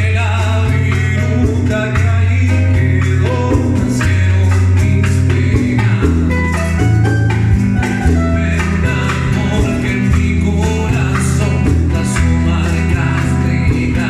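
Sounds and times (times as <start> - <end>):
latin band music: 0.0 - 14.0
person singing: 0.0 - 14.0.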